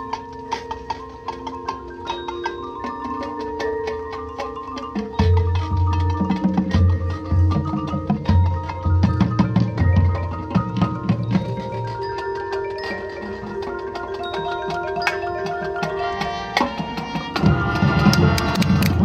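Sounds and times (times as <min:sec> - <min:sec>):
mallet keyboards: 0:00.0 - 0:19.0
marching band playing: 0:00.0 - 0:19.0.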